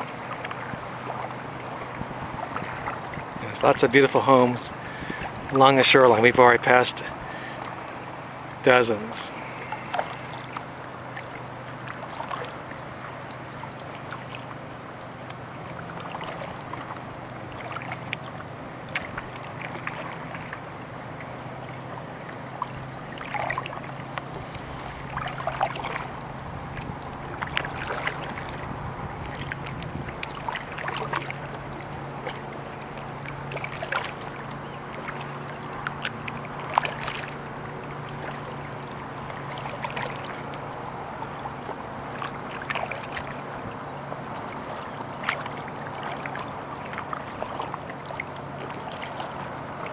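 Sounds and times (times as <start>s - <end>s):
paddle strokes splashing water: 0.0s - 49.9s
steady low hum: 0.0s - 49.9s.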